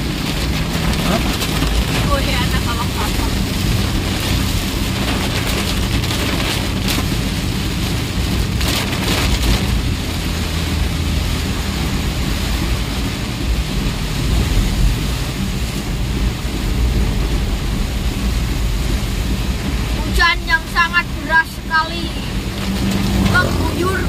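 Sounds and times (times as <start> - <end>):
engine and road rumble: 0.0 - 24.0
heavy rain on a vehicle: 0.0 - 24.0.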